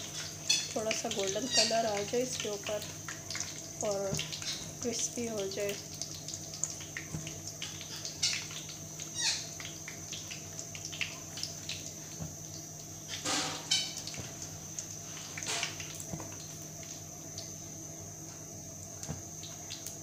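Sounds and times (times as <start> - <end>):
pastry deep-frying in hot oil: 0.0 - 20.0.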